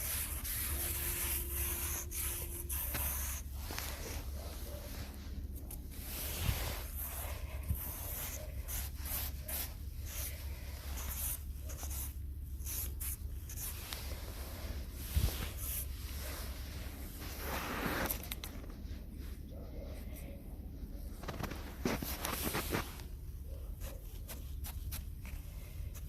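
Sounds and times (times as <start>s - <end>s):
scratching and rustling handling: 0.0s - 26.0s.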